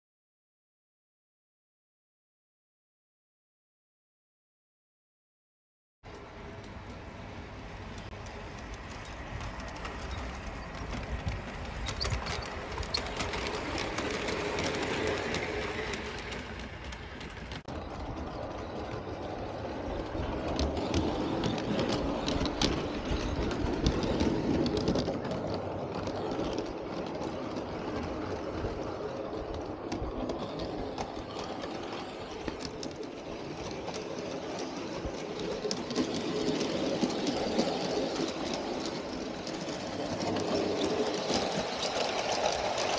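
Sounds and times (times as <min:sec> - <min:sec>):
model train wheels rumbling and clicking: 0:06.1 - 0:42.9.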